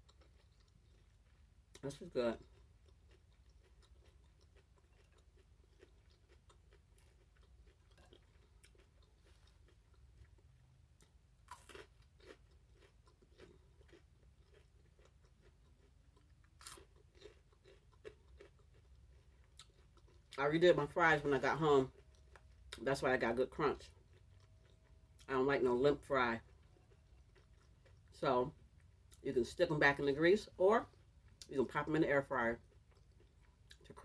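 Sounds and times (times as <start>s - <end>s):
chewing crisp fries: 0.0s - 34.0s.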